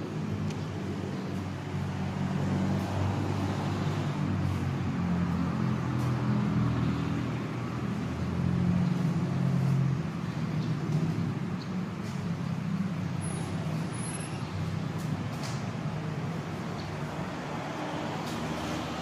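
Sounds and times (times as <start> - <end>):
road traffic noise: 0.0 - 19.0
vehicle engines humming: 0.0 - 19.0.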